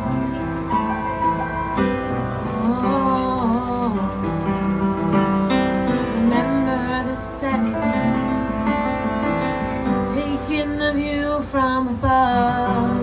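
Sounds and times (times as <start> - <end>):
piano chords: 0.0 - 13.0
person singing: 2.2 - 13.0.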